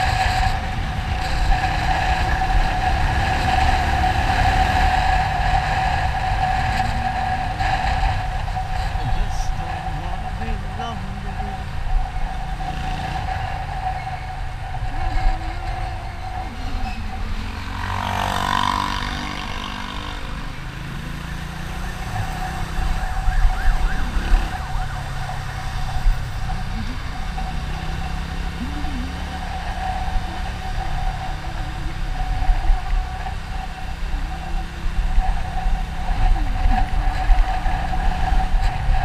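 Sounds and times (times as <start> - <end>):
vehicle passing close by: 0.0 - 33.7
constant whine: 0.0 - 39.0
vehicle road and engine noise: 0.0 - 39.0.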